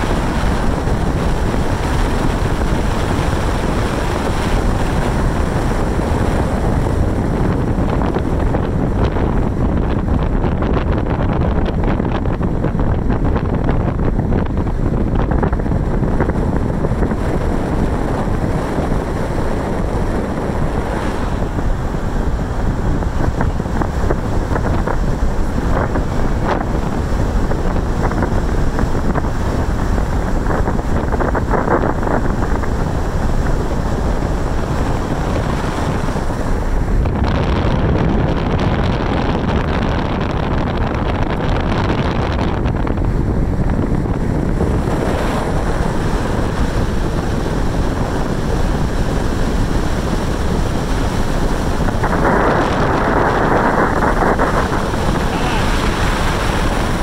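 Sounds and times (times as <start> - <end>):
wind rumbling over microphone: 0.0 - 57.0.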